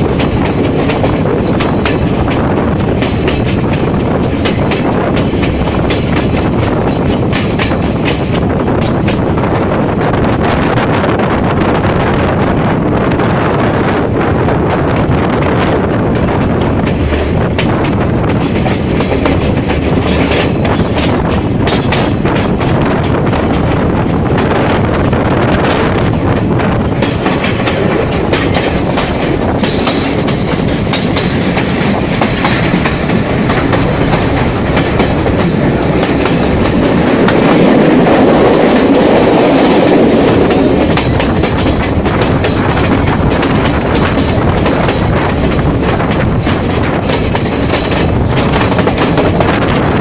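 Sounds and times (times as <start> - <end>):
train wheels clattering: 0.0 - 50.0.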